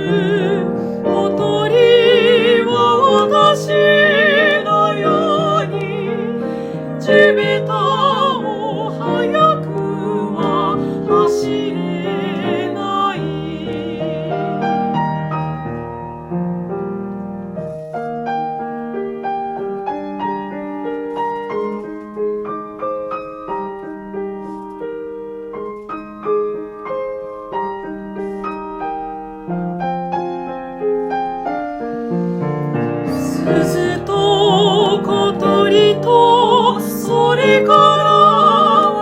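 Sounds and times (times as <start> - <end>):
gentle piano playing: 0.0 - 39.0.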